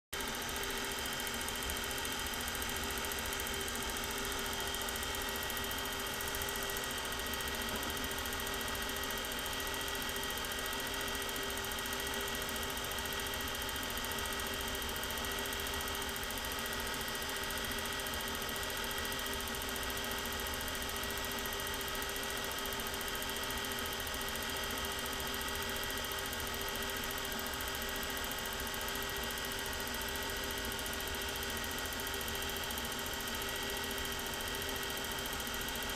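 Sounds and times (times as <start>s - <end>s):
even hum of held tones: 0.2s - 35.9s
film projector motor whirring: 0.2s - 35.9s.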